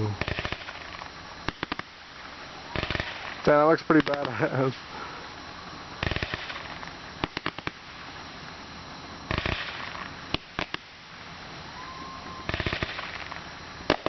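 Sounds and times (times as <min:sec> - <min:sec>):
fireworks popping and crackling: 0:00.0 - 0:14.0.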